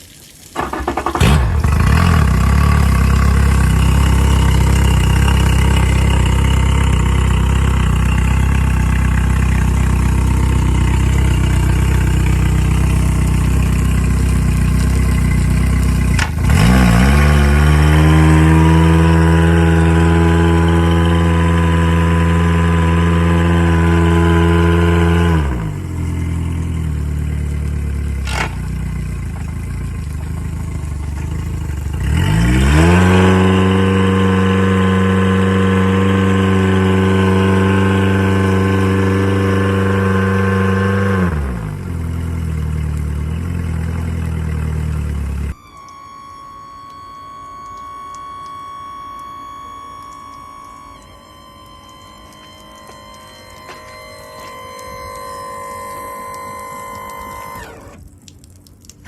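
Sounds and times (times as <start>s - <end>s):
electric tilt motor whine: 0.6s - 58.3s
boat engine running: 0.6s - 59.0s.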